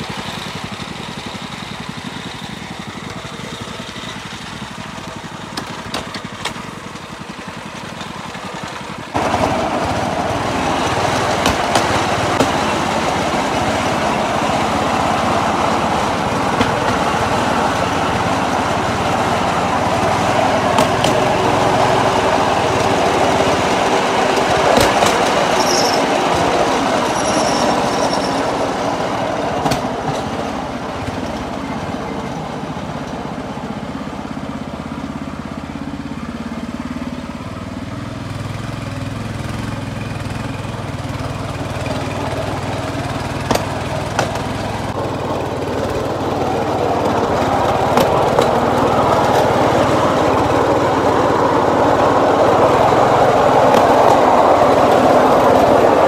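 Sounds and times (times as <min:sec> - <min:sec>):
rail trolley engine and wheels: 0:00.0 - 0:56.0.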